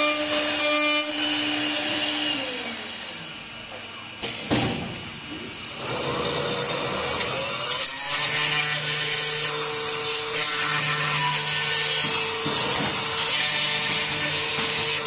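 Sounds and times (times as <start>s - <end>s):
drilling machine cutting wood: 0.0s - 3.5s, 5.7s - 15.0s.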